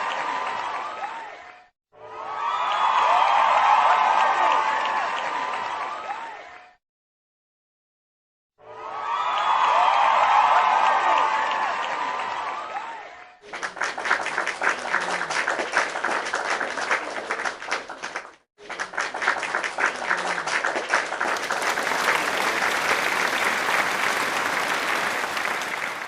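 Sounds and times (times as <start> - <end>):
applause: 0.0 - 1.7, 2.3 - 6.8, 8.9 - 26.0.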